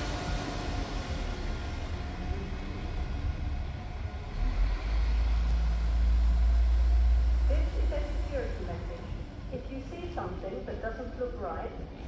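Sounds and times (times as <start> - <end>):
diesel train engine rumbling: 0.0 - 12.0.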